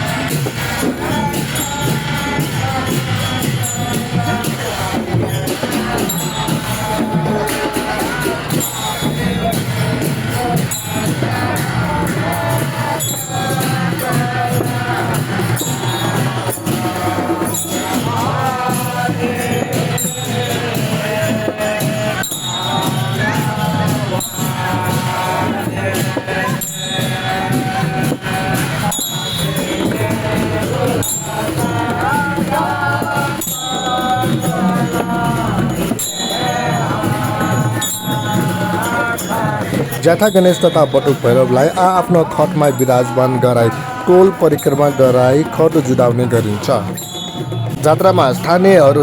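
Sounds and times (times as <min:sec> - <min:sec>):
jingling tambourine percussion: 0:00.0 - 0:49.0
music with singing voice: 0:00.0 - 0:49.0.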